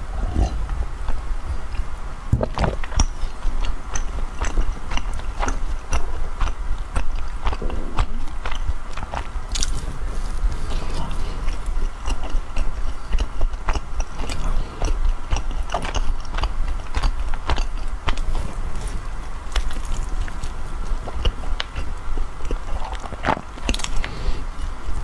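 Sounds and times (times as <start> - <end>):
biting and chewing bread: 0.0 - 25.0.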